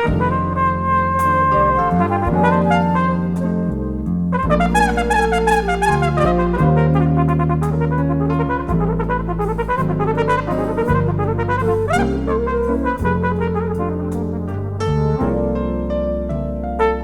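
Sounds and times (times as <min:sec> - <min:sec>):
bass line: 0:00.0 - 0:17.0
trumpet melody: 0:00.0 - 0:17.0.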